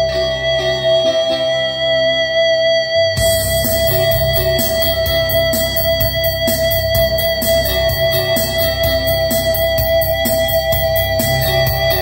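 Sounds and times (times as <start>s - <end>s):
electric guitar sustained note: 0.0s - 12.0s.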